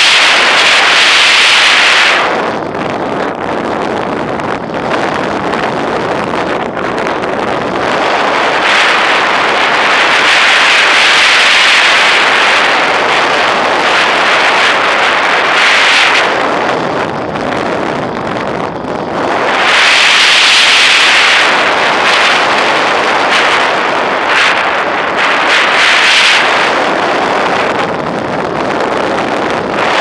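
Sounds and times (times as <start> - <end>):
air rushing past: 0.0 - 30.0.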